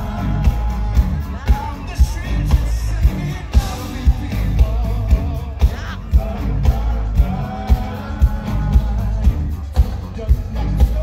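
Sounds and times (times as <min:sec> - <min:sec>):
live band playing: 0:00.0 - 0:11.0
man singing: 0:00.0 - 0:11.0.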